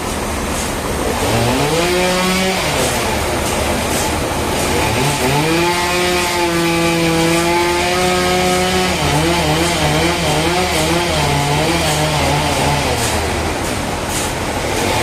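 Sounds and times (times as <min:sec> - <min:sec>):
motor saw cutting wood: 0:01.0 - 0:15.0.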